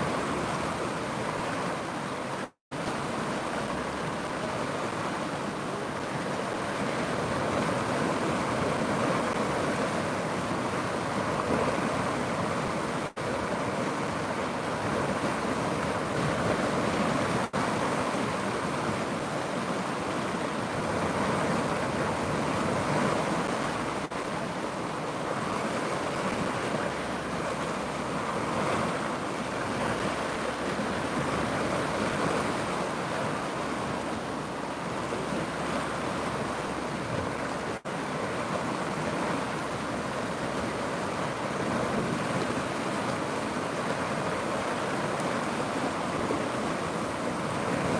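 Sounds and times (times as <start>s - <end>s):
flowing river water: 0.0s - 47.9s.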